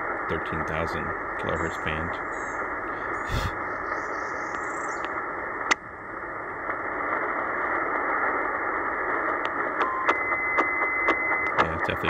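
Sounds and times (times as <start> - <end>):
shortwave radio static: 0.0 - 12.0.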